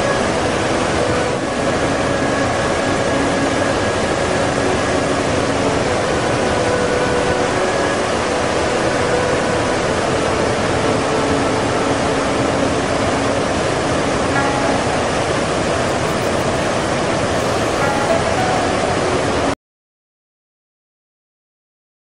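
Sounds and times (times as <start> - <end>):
soft music: 0.0 - 19.6
water rushing over rocks: 0.1 - 19.5.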